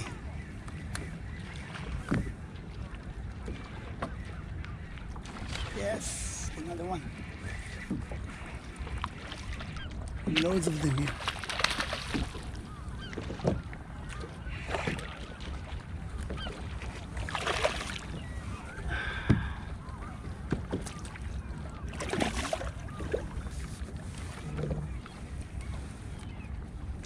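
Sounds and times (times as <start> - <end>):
sea water sloshing and splashing: 0.0 - 27.0
seabirds calling: 0.0 - 27.0.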